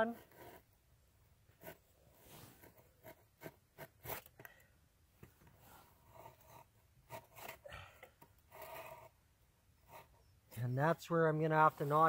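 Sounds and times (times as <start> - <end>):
faint scratching on logs: 0.0 - 0.8, 1.5 - 12.0.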